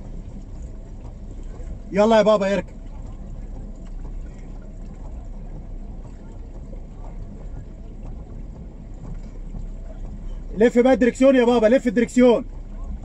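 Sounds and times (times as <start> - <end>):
car engine running low: 0.0 - 13.0
floodwater sloshing: 0.0 - 13.0.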